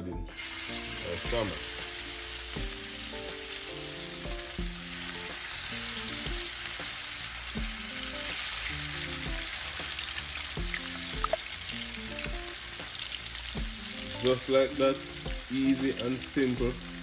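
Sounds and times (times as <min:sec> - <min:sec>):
background music: 0:00.0 - 0:17.0
fish sizzling in a frying pan: 0:00.3 - 0:17.0.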